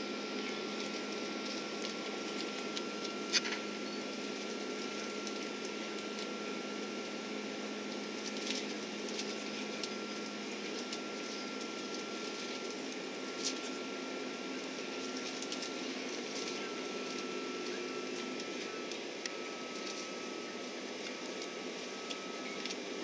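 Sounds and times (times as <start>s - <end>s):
airplane cabin hum: 0.0s - 23.0s
faint steady whine: 0.0s - 23.0s.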